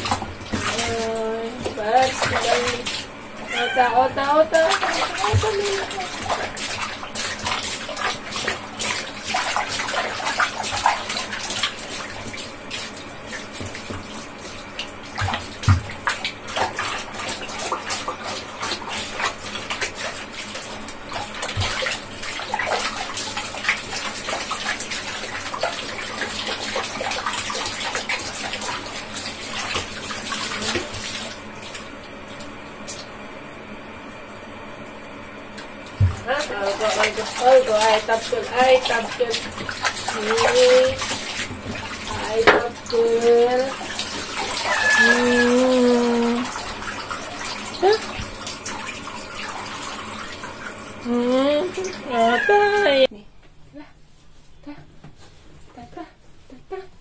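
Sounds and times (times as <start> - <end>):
water splashing in plastic tub: 0.0 - 53.1.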